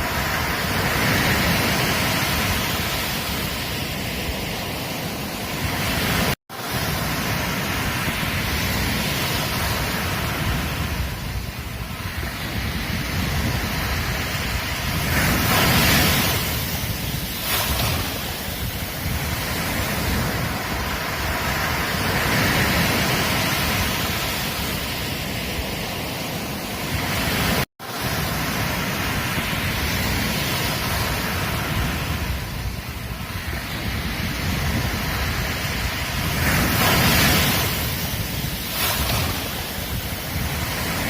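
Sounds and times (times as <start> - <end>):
waves breaking on beach: 0.0 - 41.0
wind rumbling on microphone: 0.0 - 41.0.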